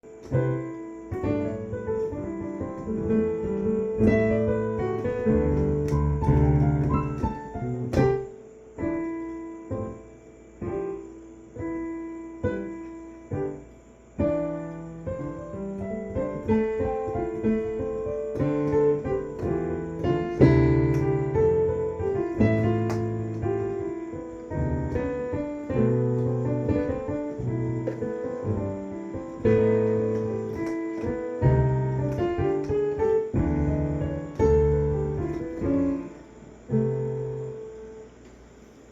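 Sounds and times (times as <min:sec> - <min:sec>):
slow piano chords: 0:00.0 - 0:38.9.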